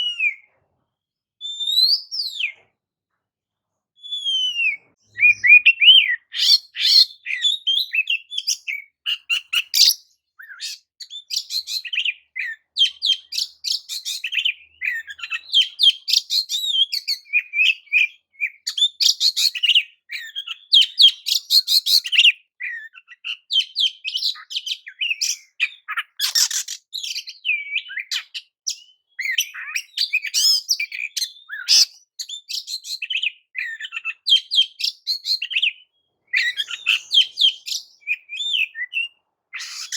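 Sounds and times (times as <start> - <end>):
bird singing: 4.0 - 39.9.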